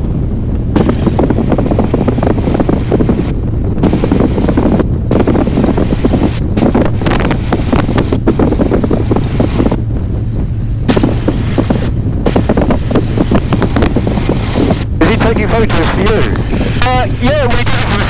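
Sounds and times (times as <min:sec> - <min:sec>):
aircraft engine running: 0:00.0 - 0:18.0
wind buffeting microphone: 0:00.0 - 0:18.0.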